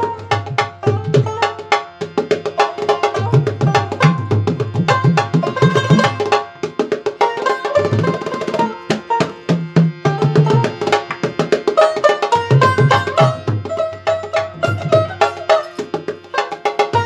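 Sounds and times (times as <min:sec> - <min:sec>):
hand drums fast rhythm: 0:00.0 - 0:17.0
plucked string melody: 0:00.0 - 0:17.0.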